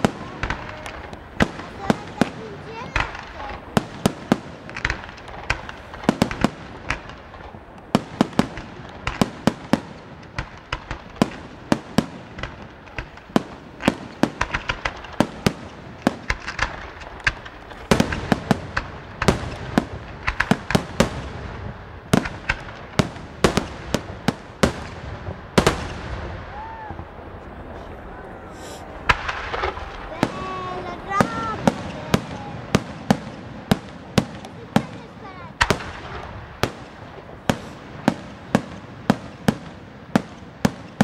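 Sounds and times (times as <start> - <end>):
fireworks bangs: 0.0 - 41.0.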